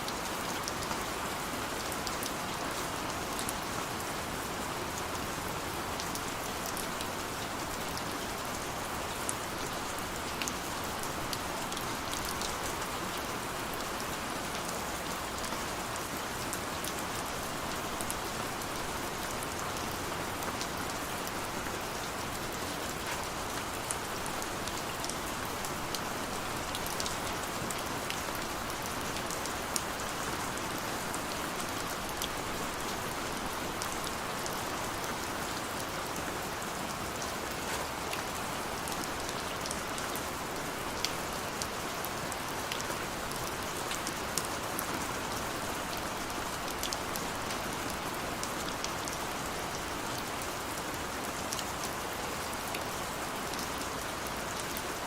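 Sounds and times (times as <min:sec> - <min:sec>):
rain falling on a window: 0:00.0 - 0:55.0.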